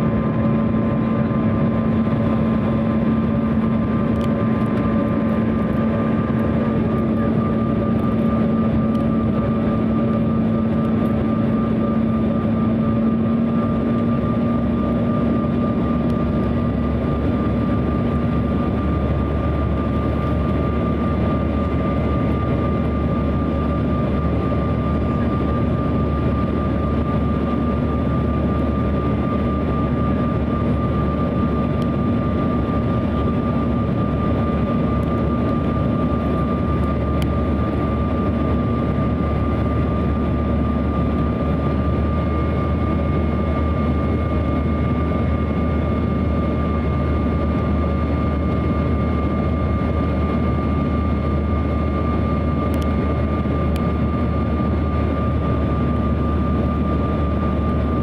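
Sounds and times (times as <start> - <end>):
jet engine hum: 0.0 - 58.0
steady high whine: 0.0 - 58.0.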